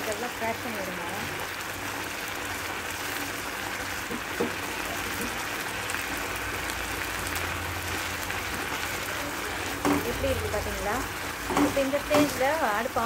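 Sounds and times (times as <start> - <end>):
milk mixture sizzling and bubbling: 0.0 - 13.0.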